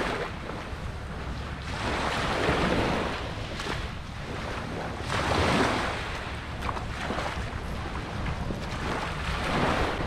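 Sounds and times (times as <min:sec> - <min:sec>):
small waves on sandy beach: 0:00.0 - 0:10.0
wind rumbling on microphone: 0:00.0 - 0:10.0.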